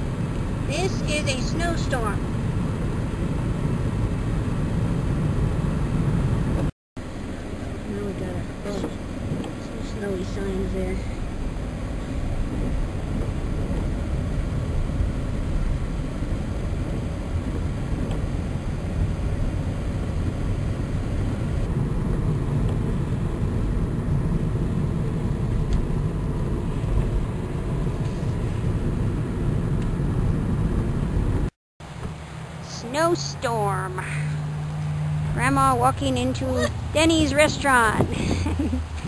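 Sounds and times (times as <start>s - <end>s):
car interior rumble: 0.0s - 39.0s.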